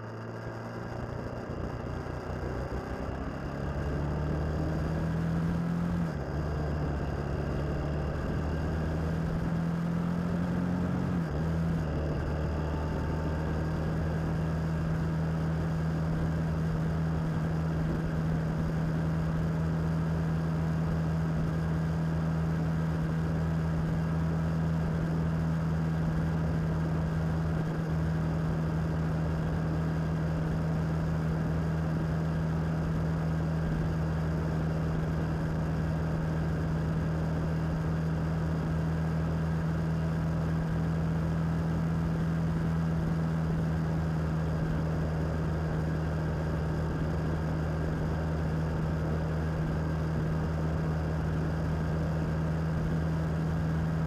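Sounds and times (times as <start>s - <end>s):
motorcycle engine cruising: 0.0s - 54.0s
road and wind noise: 0.0s - 54.0s.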